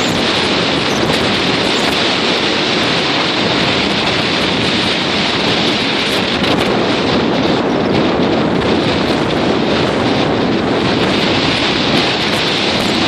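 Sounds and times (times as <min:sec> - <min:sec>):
strong wind buffeting microphone: 0:00.0 - 0:13.0
waves washing against a pier: 0:00.0 - 0:13.0.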